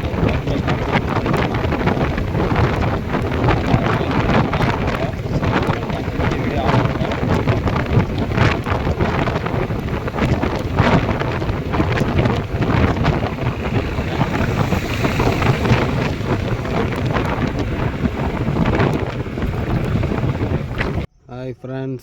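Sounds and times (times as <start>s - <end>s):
wind buffeting microphone: 0.0s - 21.2s.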